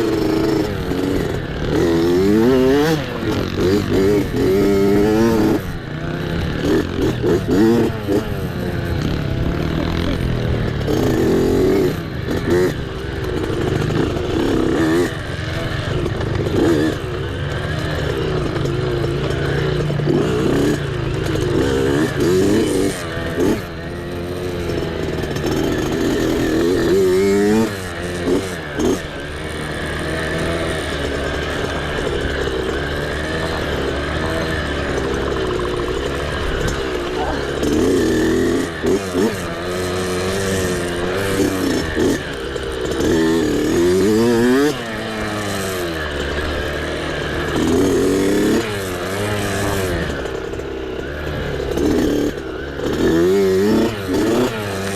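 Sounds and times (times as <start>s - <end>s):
mini bike engine revving: 0.0s - 54.9s.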